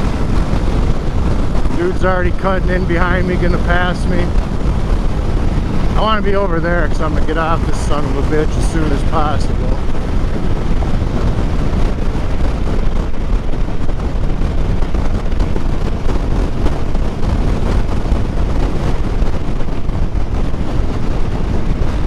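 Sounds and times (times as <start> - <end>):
road and engine rumble: 0.0 - 22.0
wind rushing over microphone: 0.0 - 22.0.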